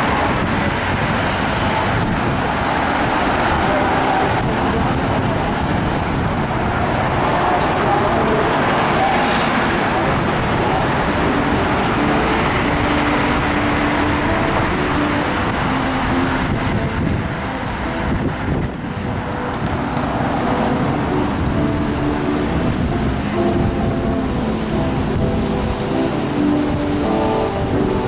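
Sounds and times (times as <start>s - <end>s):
street traffic driving past: 0.0s - 28.0s.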